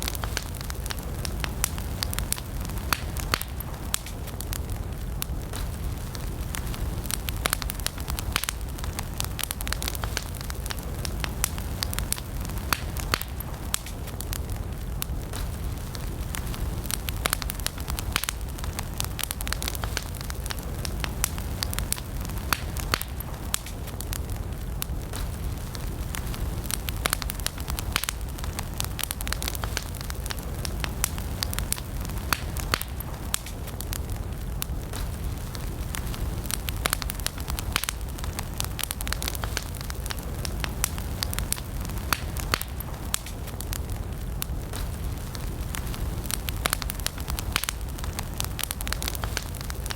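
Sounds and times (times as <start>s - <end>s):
campfire crackling and popping: 0.0s - 49.9s
low rumble of flames: 0.0s - 49.9s.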